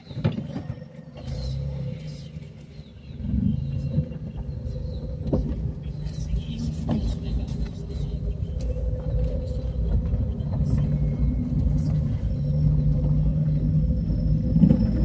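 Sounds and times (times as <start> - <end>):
low road rumble: 0.0 - 15.0
vehicle engine humming: 0.0 - 15.0.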